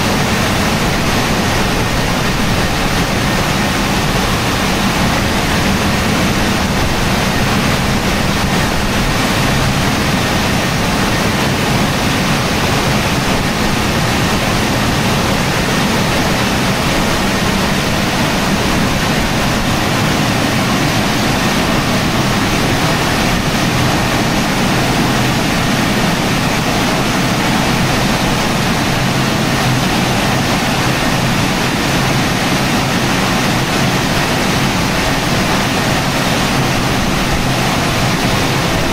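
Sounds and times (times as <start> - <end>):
drying blowers rushing air: 0.0 - 38.9.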